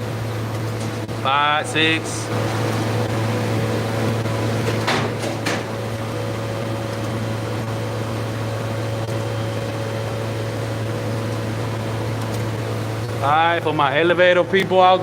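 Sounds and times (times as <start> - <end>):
elevator electric hum: 0.0 - 15.0.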